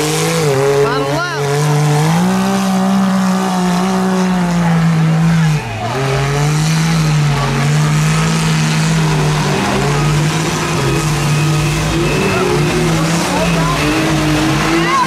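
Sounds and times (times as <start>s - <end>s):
engine revving high: 0.0s - 15.0s.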